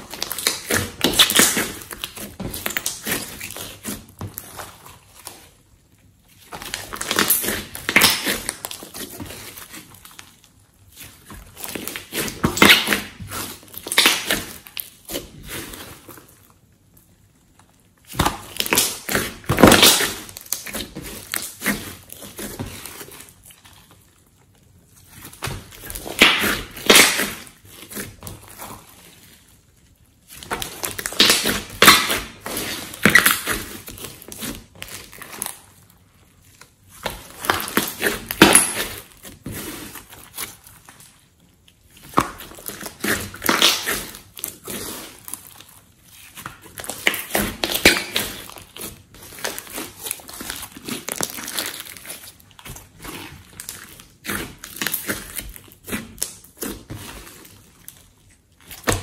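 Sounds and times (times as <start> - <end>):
slime squishing and popping: 0.0 - 5.5, 6.3 - 16.4, 17.4 - 24.4, 25.1 - 29.4, 30.2 - 35.8, 36.4 - 59.0.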